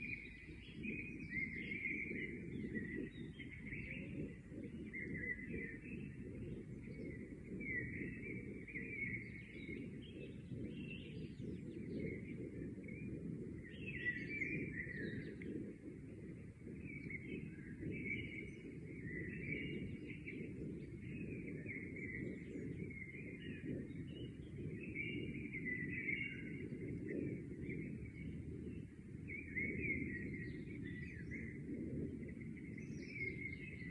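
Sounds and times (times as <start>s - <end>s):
birds chirping and twittering: 0.0s - 33.9s.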